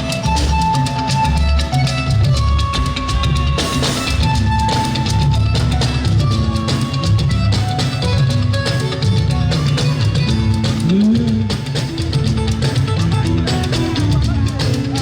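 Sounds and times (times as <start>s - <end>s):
instrumental band music: 0.0s - 15.0s.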